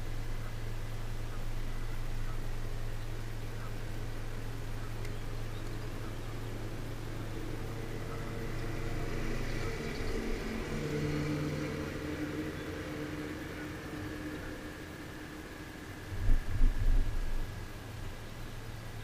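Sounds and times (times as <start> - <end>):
electric trolling motor humming: 0.0 - 19.0.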